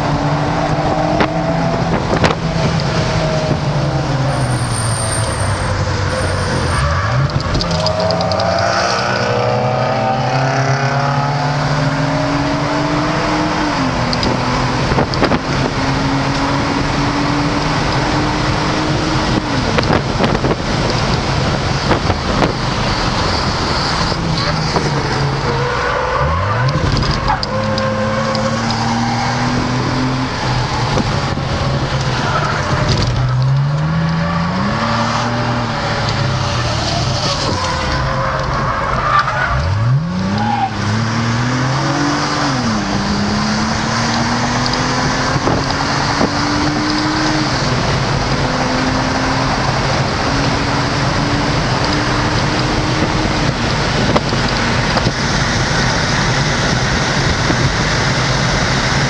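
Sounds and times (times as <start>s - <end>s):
car engine accelerating: 0.0s - 59.0s
road tyre and wind noise: 0.0s - 59.0s.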